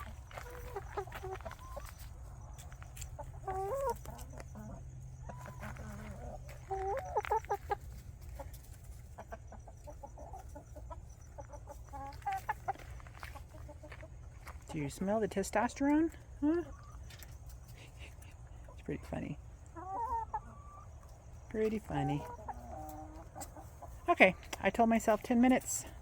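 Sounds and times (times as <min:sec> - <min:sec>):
chickens clucking and calling: 0:00.0 - 0:26.0.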